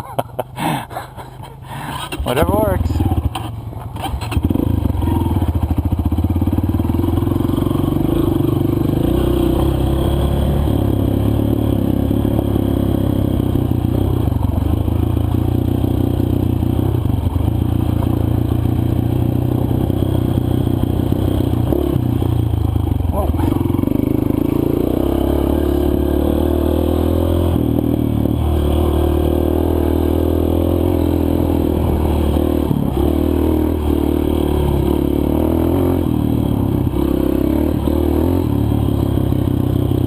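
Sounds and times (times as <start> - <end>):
dirt bike engine running: 1.7 - 40.0.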